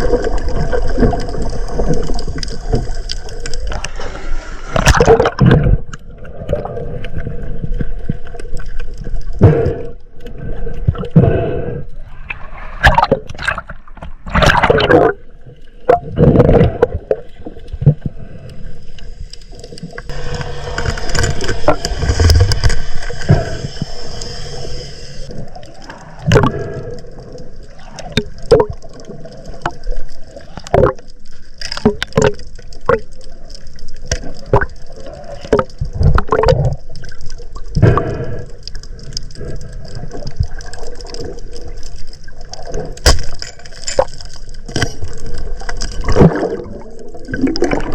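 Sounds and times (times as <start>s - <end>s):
water gurgling and sloshing: 0.0s - 47.9s.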